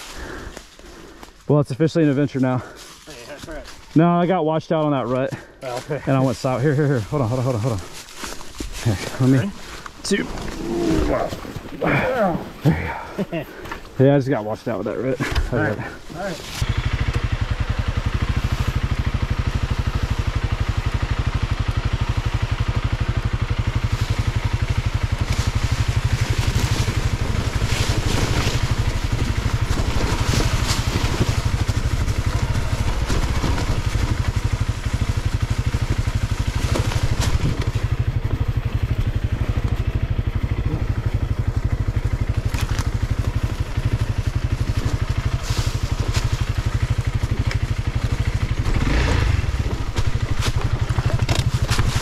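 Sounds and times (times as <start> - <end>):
motorcycle engine idling: 0.0 - 1.5, 4.7 - 52.0.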